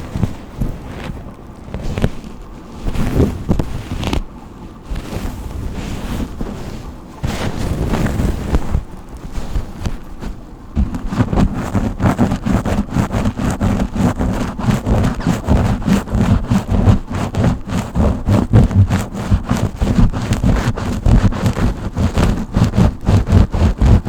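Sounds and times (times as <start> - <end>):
brush rubbing on microphone: 0.0 - 24.0.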